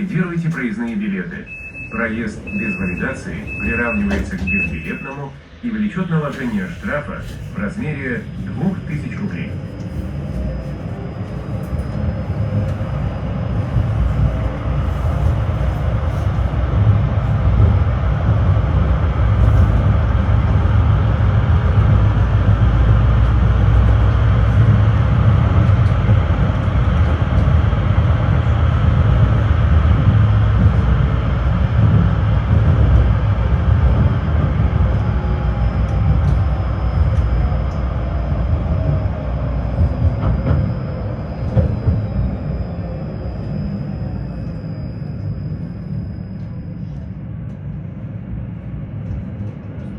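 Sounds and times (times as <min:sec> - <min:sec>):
tram wheels rumbling on rails: 0:00.0 - 0:49.9.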